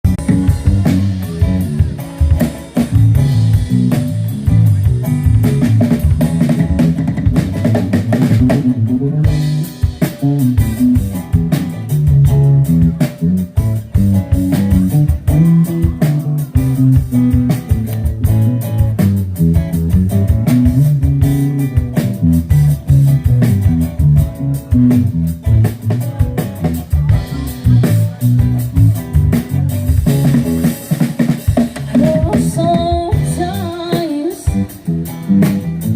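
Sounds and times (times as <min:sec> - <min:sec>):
bass: 0:00.0 - 0:35.9
drum kit beat: 0:00.0 - 0:35.9
guitar: 0:00.0 - 0:35.9.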